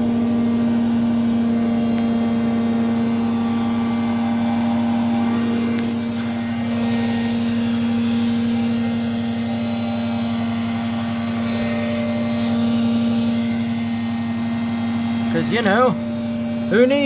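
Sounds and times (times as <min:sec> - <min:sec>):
washing machine spin whine: 0:00.0 - 0:17.0.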